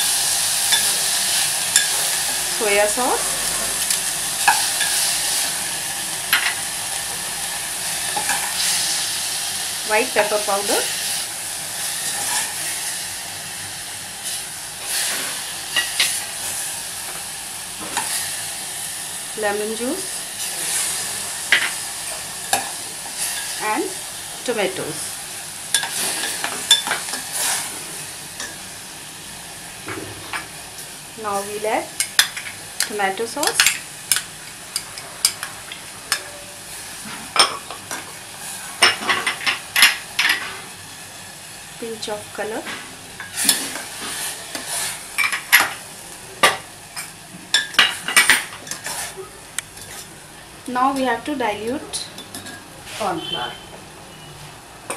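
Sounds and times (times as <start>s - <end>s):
vegetables sizzling in oil: 0.0s - 54.9s.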